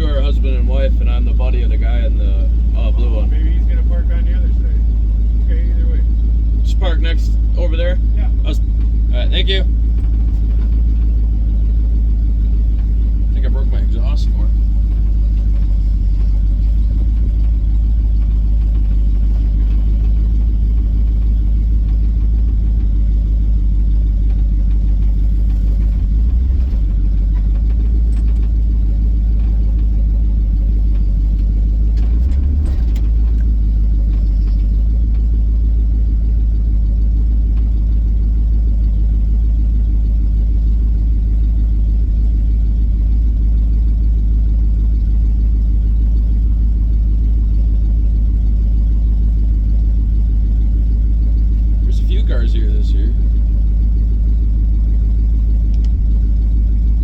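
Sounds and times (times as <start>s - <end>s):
car engine exhaust rumble: 0.0s - 57.0s.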